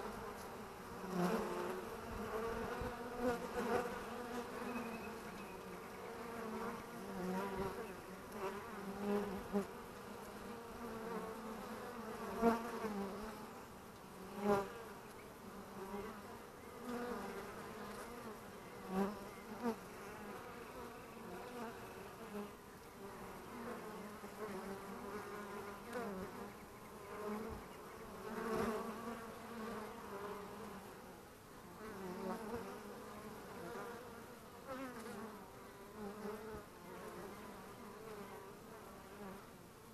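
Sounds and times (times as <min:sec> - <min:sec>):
honeybees buzzing: 0:00.0 - 0:39.9.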